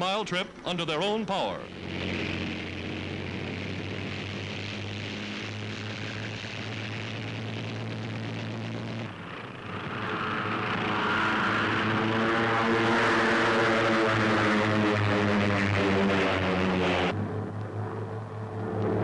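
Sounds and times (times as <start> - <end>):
propeller planes droning: 0.0 - 19.0
planes flying low past: 0.4 - 19.0.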